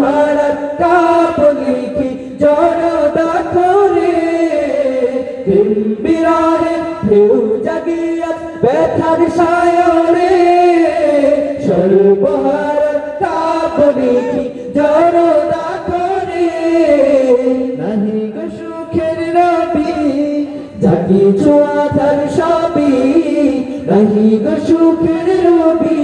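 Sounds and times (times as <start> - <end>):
group of men singing unaccompanied: 0.0 - 26.0.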